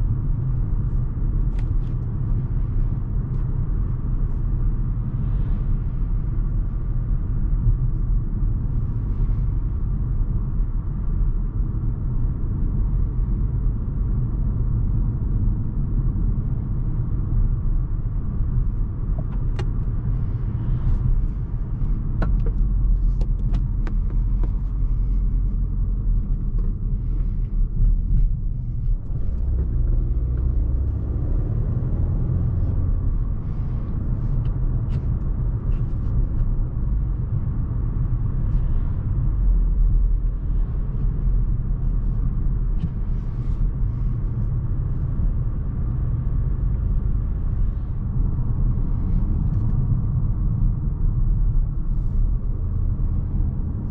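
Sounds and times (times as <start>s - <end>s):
car engine and tyre rumble: 0.0s - 53.9s.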